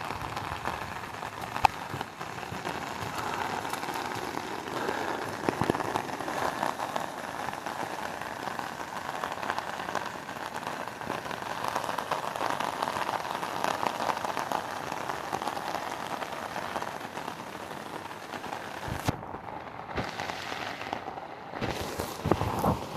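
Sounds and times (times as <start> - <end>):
rain pattering on surfaces: 0.0 - 22.9.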